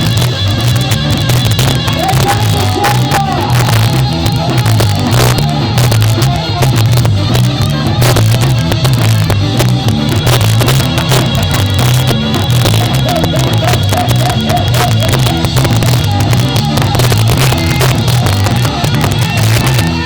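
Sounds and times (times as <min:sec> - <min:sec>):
drums: 0:00.0 - 0:20.0
heavy bass line: 0:00.0 - 0:20.0
live ska band playing: 0:00.0 - 0:20.0.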